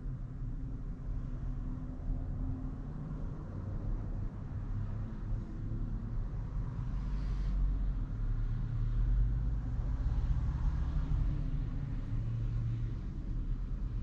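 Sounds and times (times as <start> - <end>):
road rumble and tyre noise: 0.0 - 14.0.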